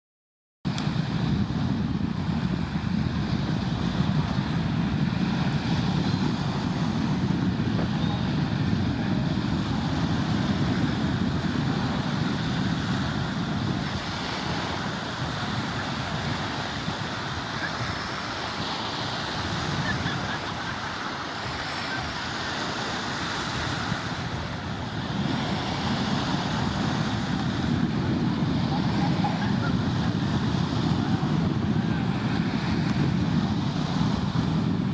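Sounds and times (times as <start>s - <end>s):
small waves washing onto beach: 0.7s - 34.9s
wind rumbling on microphone: 0.7s - 34.9s.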